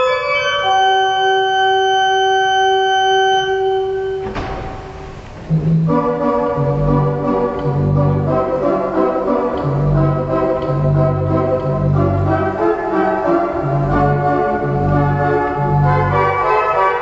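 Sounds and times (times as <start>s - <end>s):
organ playing slow chords: 0.0s - 4.3s, 5.4s - 17.0s.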